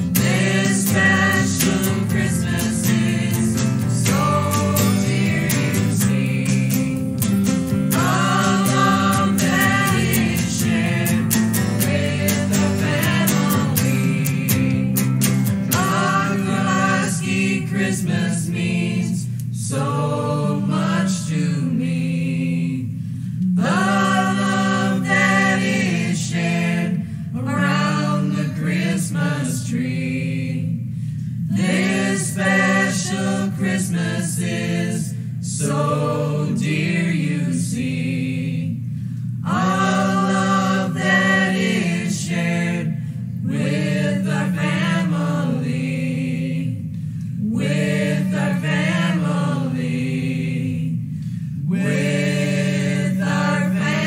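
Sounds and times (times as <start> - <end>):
choir singing: 0.0 - 38.8, 39.4 - 54.0.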